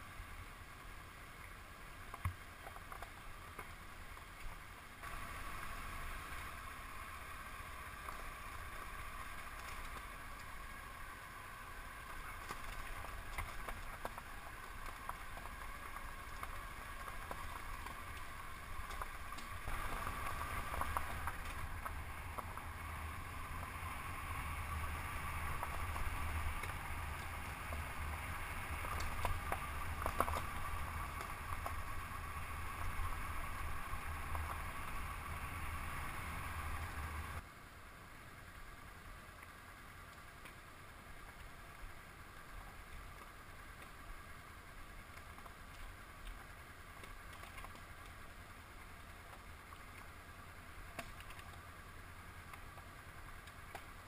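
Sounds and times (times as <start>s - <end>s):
tyres on gravel road: 0.0s - 54.0s.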